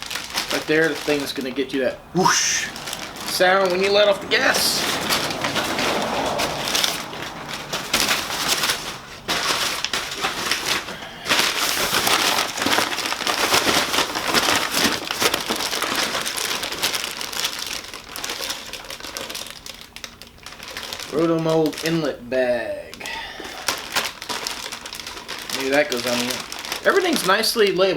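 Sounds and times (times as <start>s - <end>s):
plastic bags crinkling: 0.0s - 27.9s.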